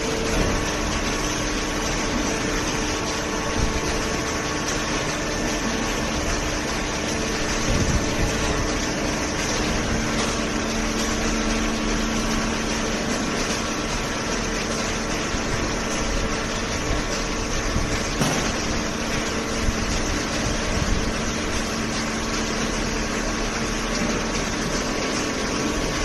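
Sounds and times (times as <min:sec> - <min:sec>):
baler machine hum: 0:00.0 - 0:26.0.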